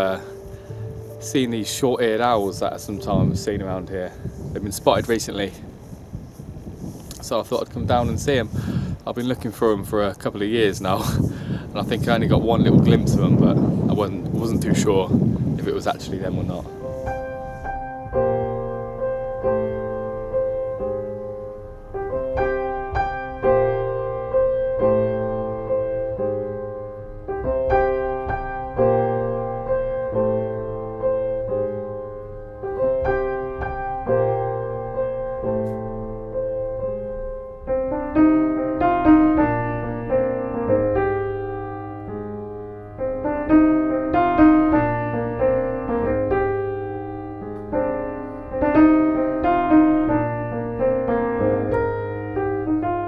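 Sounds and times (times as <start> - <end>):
piano music: 0.0 - 53.0.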